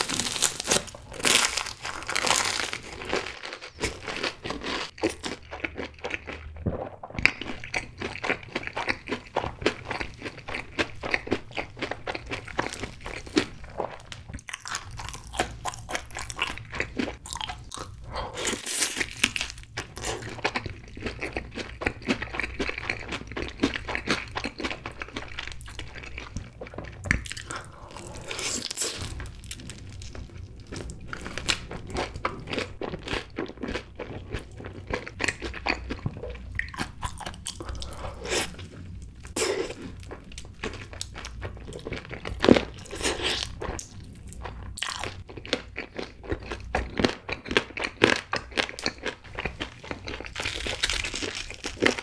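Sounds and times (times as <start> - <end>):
crunchy biting and chewing: 0.0 - 38.7, 44.8 - 52.0.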